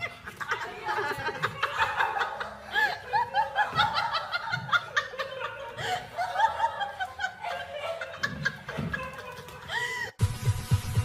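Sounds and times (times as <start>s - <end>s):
person giggling: 0.0s - 10.2s.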